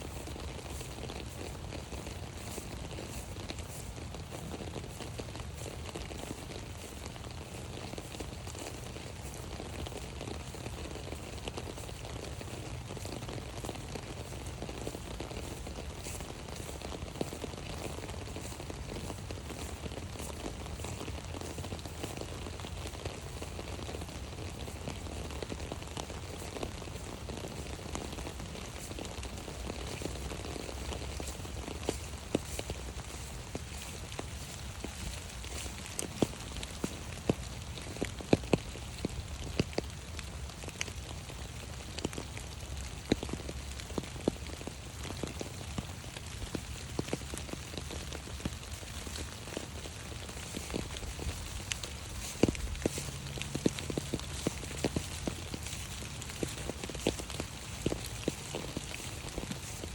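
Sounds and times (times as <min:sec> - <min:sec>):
rain pattering on an umbrella: 0:00.0 - 0:59.9.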